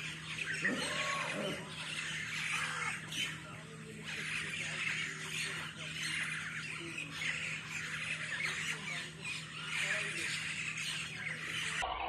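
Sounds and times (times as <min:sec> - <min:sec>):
flock of birds chirping and squawking: 0:00.0 - 0:12.0.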